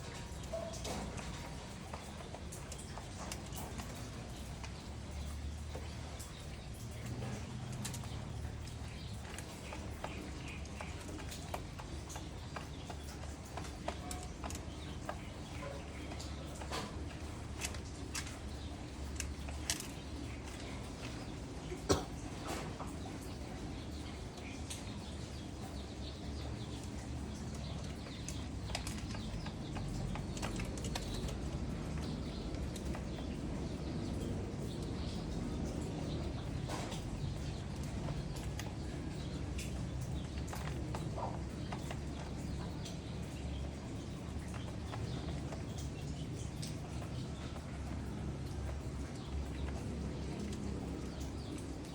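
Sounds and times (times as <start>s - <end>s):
beaks pecking at grain: 0.0s - 51.9s
steady low hum: 0.0s - 51.9s.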